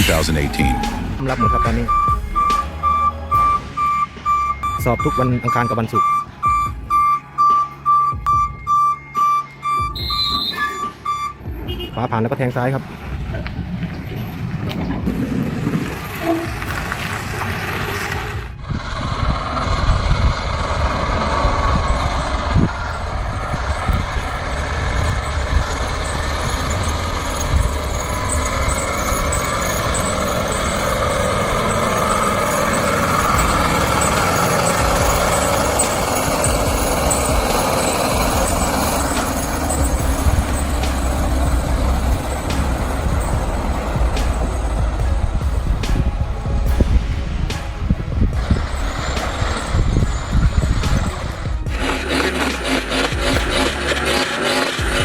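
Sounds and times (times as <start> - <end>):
heavy truck engine and road noise: 0.0 - 55.0.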